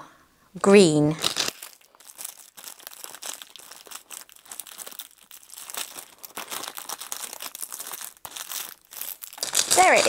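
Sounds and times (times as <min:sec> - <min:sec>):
plastic bag crinkling: 0:00.9 - 0:10.0.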